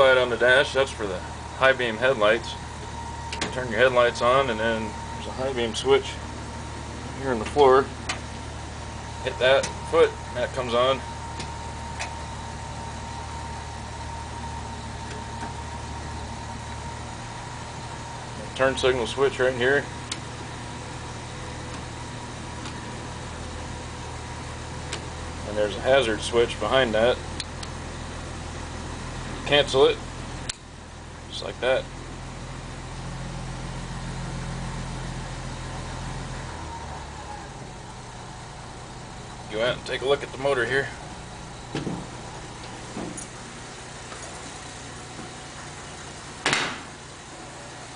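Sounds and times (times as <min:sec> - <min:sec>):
engine idling: 0:00.0 - 0:47.9
thin steady whine: 0:00.0 - 0:47.9.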